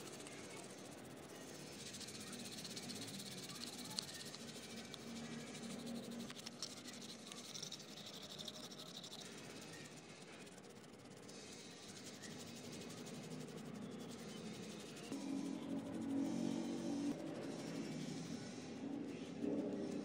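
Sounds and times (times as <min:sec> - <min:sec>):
toothbrush scrubbing: 0:00.0 - 0:16.2.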